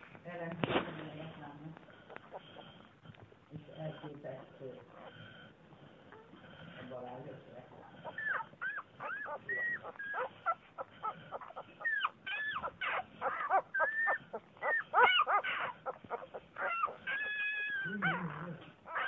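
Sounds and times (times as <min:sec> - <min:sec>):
puppies squeaking and whimpering: 0:01.9 - 0:07.0, 0:07.7 - 0:19.0.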